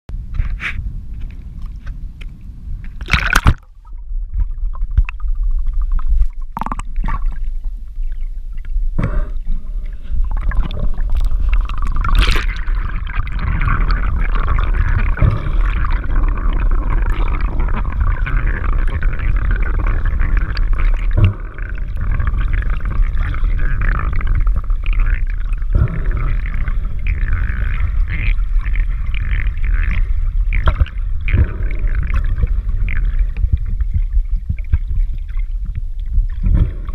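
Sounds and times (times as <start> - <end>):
underwater rumble of water: 0.1 - 36.9.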